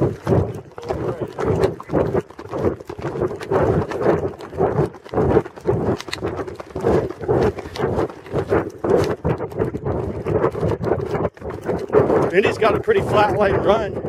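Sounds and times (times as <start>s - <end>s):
horse hoofbeats on dirt: 0.0s - 14.0s.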